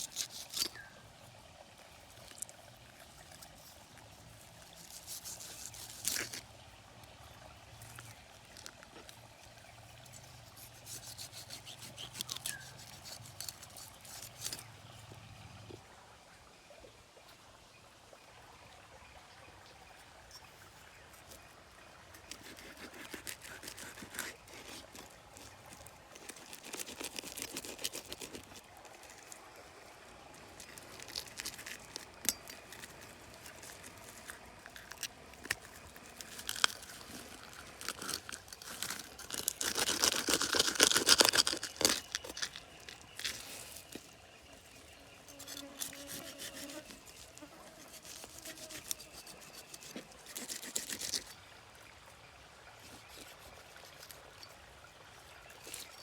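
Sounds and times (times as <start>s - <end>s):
rustling and crunching handling: 0.0s - 15.0s, 22.1s - 51.4s, 52.8s - 54.6s.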